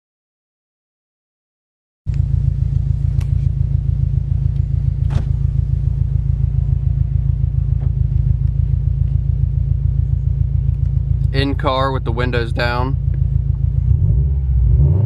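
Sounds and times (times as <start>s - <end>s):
car engine idling: 2.1s - 15.0s.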